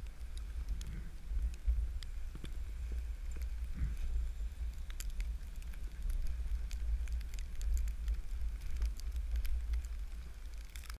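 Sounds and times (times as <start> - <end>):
skis crackling on hard snow: 0.0 - 11.0
wind rumbling on microphone: 0.0 - 11.0.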